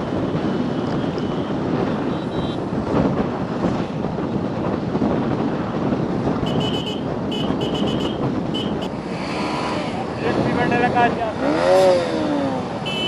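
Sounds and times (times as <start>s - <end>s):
wind buffeting microphone: 0.0s - 12.8s
motorcycle road and engine noise: 0.0s - 13.0s.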